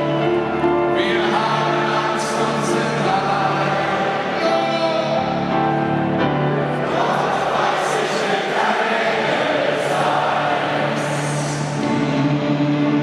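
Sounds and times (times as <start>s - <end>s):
crowd singing together: 0.0s - 13.0s
slow song with held sung notes: 0.0s - 13.0s.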